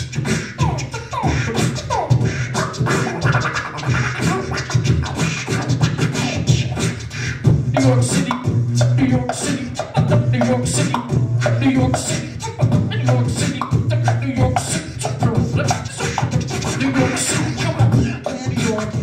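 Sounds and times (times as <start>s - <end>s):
beatboxing mouth drums: 0.0s - 19.0s
deep vocal bass line: 0.0s - 19.0s.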